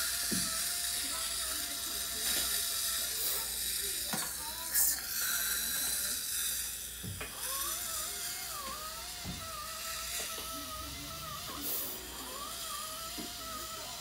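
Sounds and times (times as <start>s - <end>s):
dental suction hissing: 0.0s - 14.0s.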